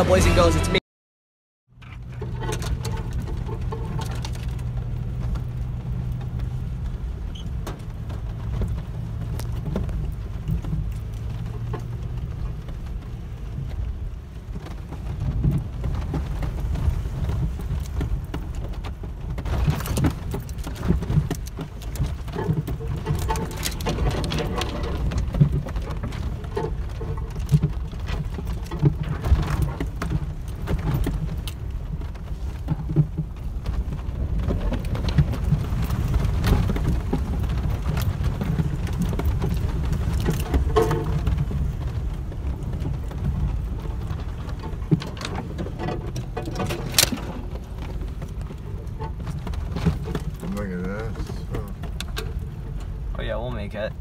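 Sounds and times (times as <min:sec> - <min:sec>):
truck engine and tyres rumbling: 0:00.0 - 0:00.8, 0:01.7 - 0:54.0
knocks and rattles: 0:01.8 - 0:13.8, 0:14.5 - 0:53.8.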